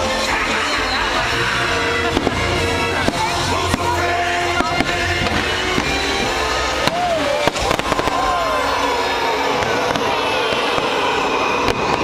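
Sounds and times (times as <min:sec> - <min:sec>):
fireworks bursting and crackling: 0:00.0 - 0:12.0
music over loudspeakers: 0:00.0 - 0:12.0
sharp fireworks bangs: 0:01.7 - 0:12.0.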